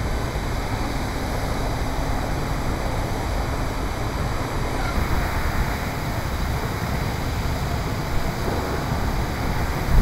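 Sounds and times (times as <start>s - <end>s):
water gushing from hydrant: 0.0s - 10.0s.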